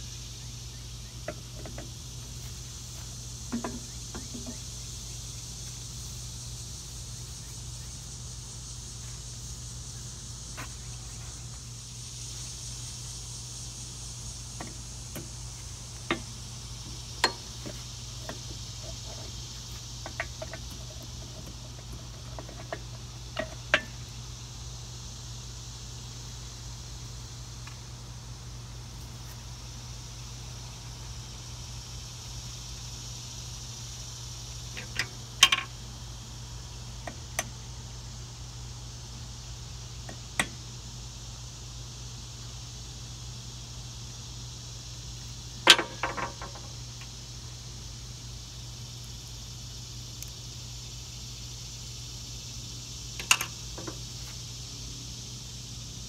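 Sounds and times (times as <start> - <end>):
high insect drone: 0.0 - 56.0
steady low hum: 0.0 - 56.0.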